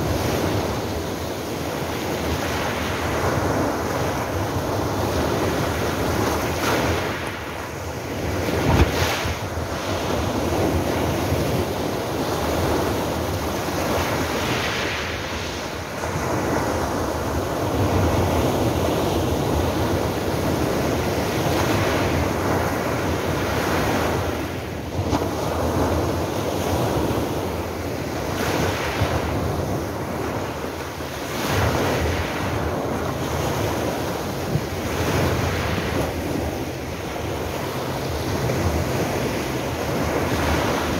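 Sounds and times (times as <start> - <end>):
waves washing over pebbles: 0.0 - 40.9.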